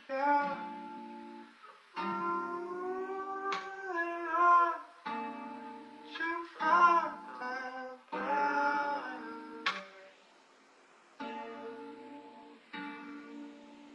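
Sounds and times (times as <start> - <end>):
wordless vocals: 0.0 - 1.2, 2.0 - 10.3, 11.2 - 13.4
plucked guitar: 0.0 - 10.2, 11.2 - 13.9.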